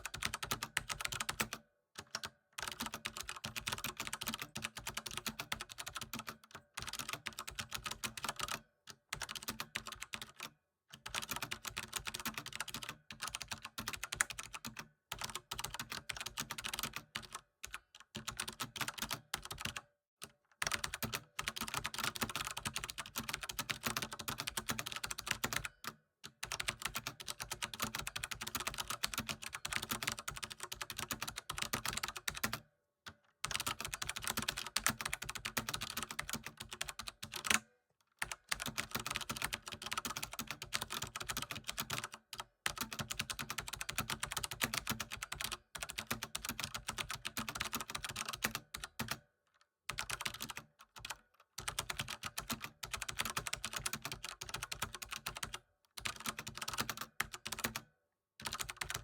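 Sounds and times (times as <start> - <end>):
fast typing on keyboard: 0.0 - 19.8, 20.6 - 32.7, 33.4 - 37.6, 38.2 - 49.2, 49.9 - 59.0.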